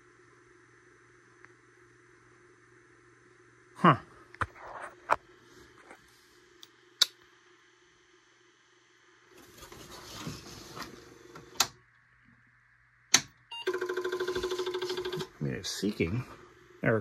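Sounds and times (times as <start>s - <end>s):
floppy drive hum: 0.0s - 17.0s.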